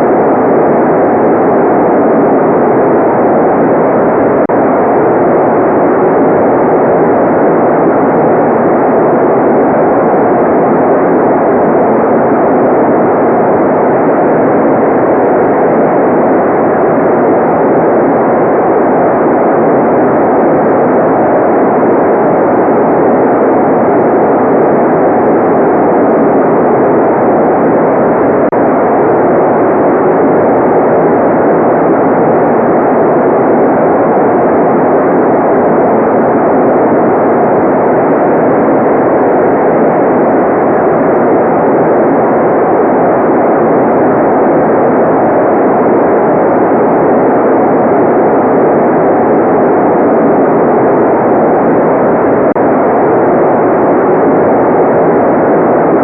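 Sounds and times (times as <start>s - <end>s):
muffled white noise: 0.0s - 56.0s.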